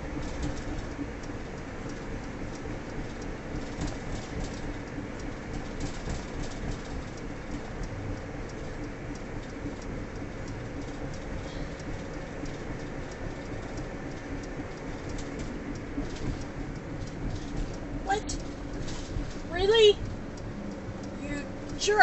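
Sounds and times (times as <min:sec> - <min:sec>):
light ticks: 0:00.0 - 0:22.0
truck road and engine noise: 0:00.0 - 0:22.0.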